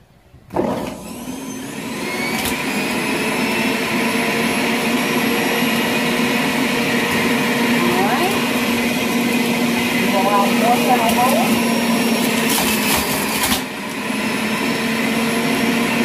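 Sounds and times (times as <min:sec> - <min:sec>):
juicer motor whining: 0:00.3 - 0:16.0.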